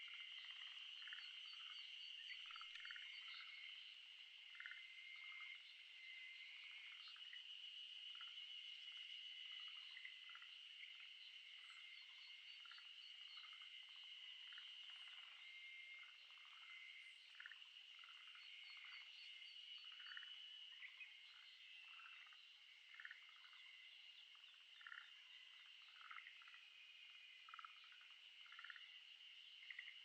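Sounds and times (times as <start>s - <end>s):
frog croaks: 0.0s - 7.4s, 8.0s - 30.0s.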